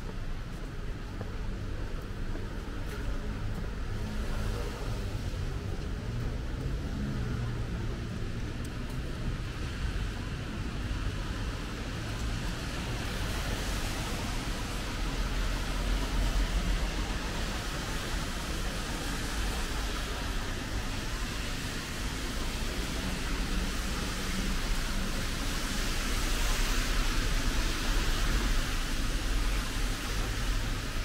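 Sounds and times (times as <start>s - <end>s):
street ambience hiss and rumble: 0.0s - 31.0s.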